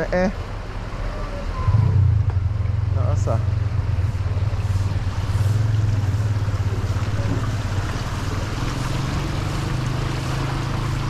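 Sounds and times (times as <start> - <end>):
low engine-like hum: 0.0 - 11.0.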